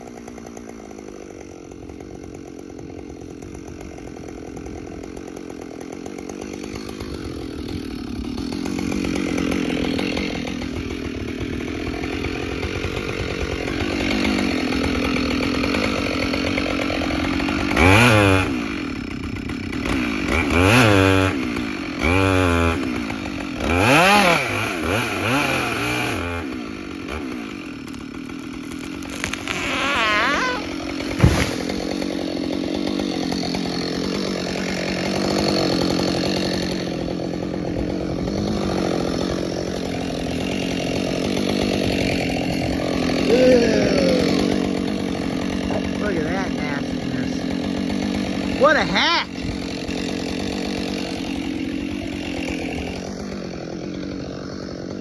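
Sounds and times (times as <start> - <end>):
chainsaw engine revving: 0.0 - 55.0.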